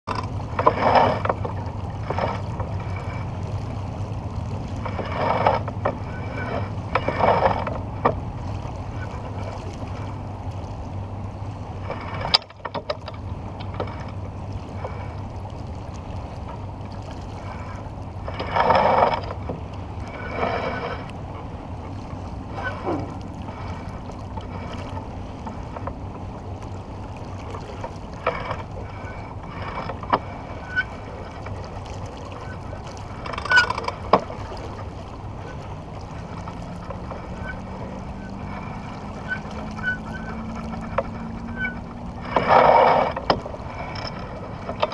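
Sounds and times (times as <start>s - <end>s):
water and wind rushing: 0.0s - 44.9s.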